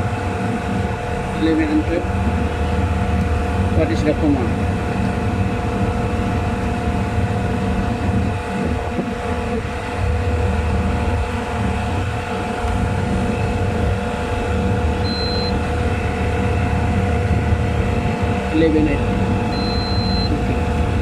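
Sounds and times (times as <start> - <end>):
machinery drone with whine: 0.0 - 21.0.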